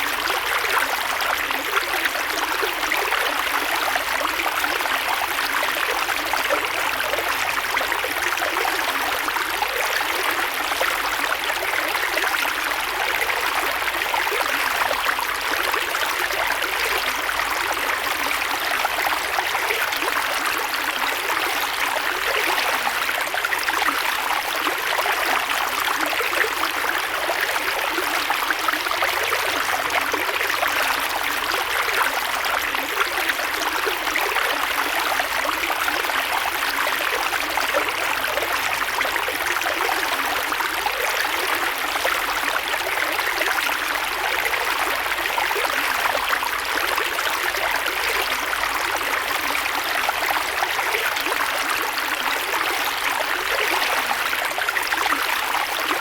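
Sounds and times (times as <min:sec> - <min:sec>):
creek water babbling over rocks: 0:00.0 - 0:56.0.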